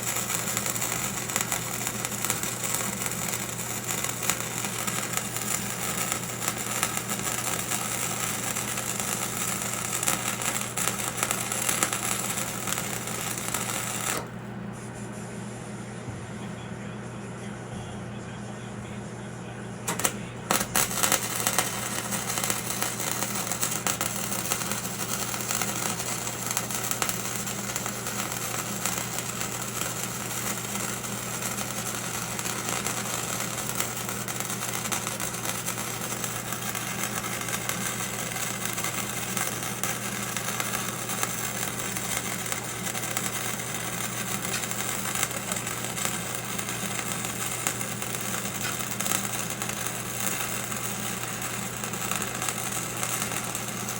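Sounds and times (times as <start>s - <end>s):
welding arc crackling: 0.0s - 14.4s, 19.9s - 53.9s
welding machine mains hum: 0.0s - 14.7s, 19.7s - 53.9s.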